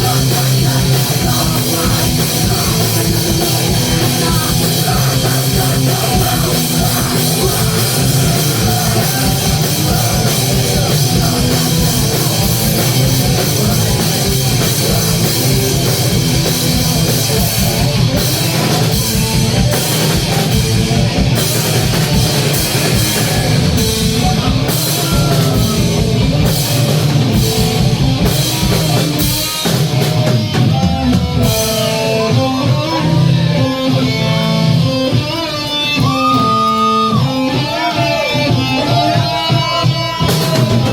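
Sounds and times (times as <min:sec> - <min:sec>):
distorted electric guitar: 0:00.0 - 0:40.9
drum kit: 0:00.0 - 0:40.9
punk rock band playing: 0:00.0 - 0:40.9.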